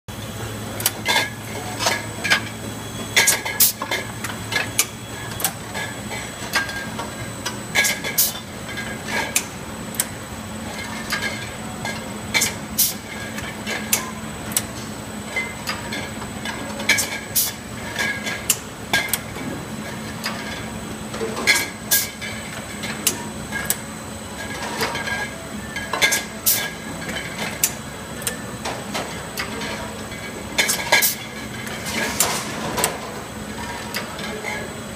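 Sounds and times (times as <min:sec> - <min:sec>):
steady motor hum: 0:00.1 - 0:34.9
capping machine clicks and clanks: 0:00.2 - 0:34.9.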